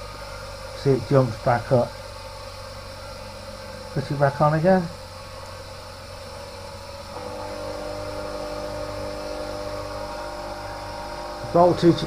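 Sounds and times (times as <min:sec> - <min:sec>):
louder humming tones: 0:00.0 - 0:12.0
bench grinder motor humming: 0:02.0 - 0:12.0.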